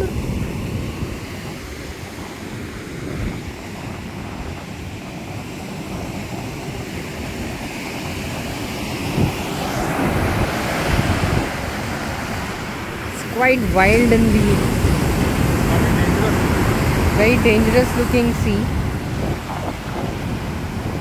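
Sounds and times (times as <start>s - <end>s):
surf breaking on shore: 0.0s - 21.0s
wind on microphone: 0.0s - 21.0s.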